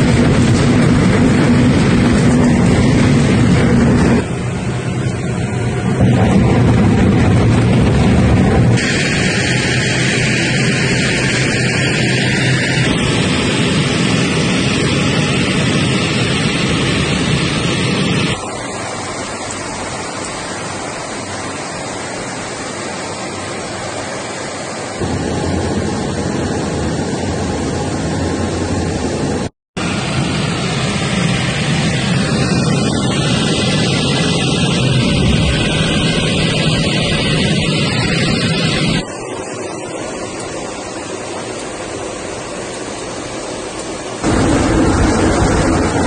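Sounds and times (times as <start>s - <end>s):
aircraft engines rushing in cockpit: 0.0s - 46.0s.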